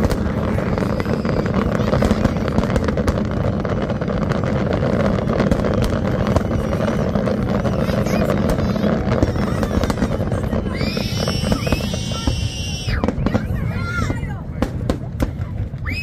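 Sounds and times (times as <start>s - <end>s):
fireworks cracks and crackles: 0.0s - 16.0s
fireworks rumble: 0.0s - 16.0s.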